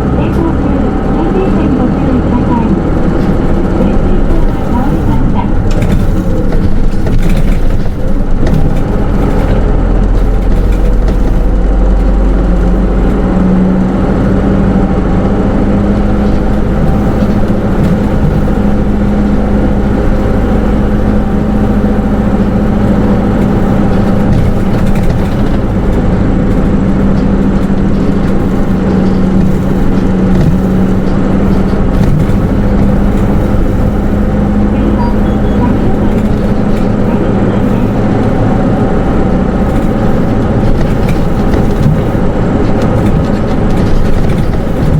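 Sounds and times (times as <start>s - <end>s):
bus engine drone: 0.0s - 44.9s
road noise: 0.0s - 44.9s.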